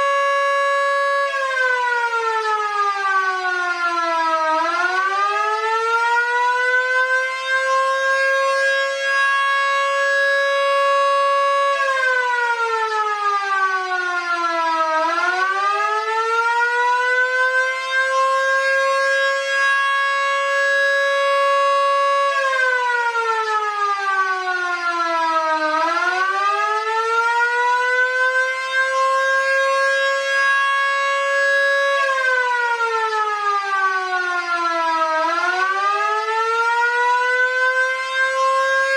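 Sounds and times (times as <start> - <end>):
sirens wailing: 0.0 - 38.9.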